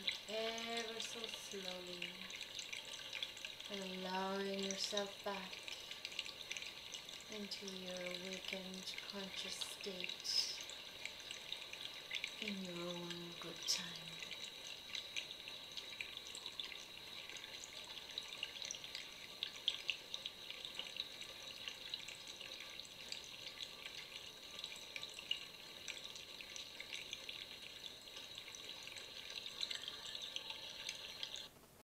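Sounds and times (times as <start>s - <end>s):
water drips and splashes: 0.0s - 31.5s
water trickling: 0.0s - 31.5s.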